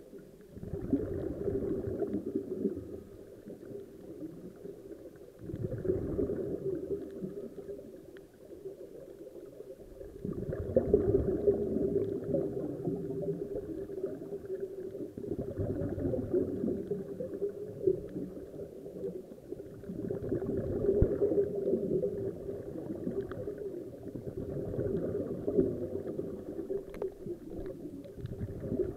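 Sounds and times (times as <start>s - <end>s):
regulator bubbling underwater: 0.0s - 28.9s.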